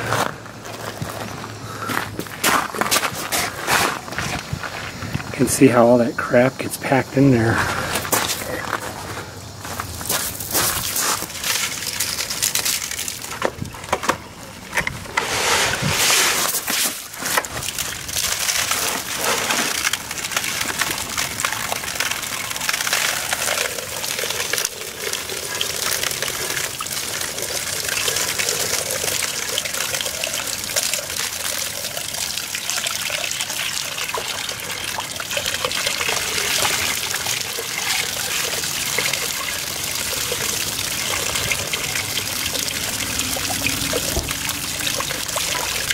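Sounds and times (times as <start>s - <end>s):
water splashing in steel housing: 6.2s - 45.9s
slurry pouring: 6.9s - 45.9s.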